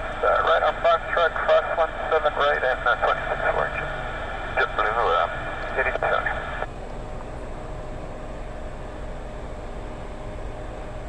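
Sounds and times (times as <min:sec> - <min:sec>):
faint steady hum: 0:00.0 - 0:11.0
jet engines idling: 0:00.0 - 0:11.0.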